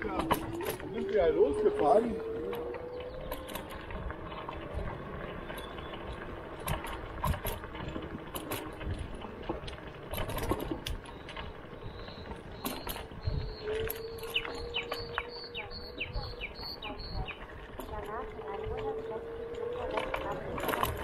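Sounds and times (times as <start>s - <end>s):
scooter rattling clicks: 0.0s - 21.0s
scooter rolling over uneven surface: 0.0s - 21.0s.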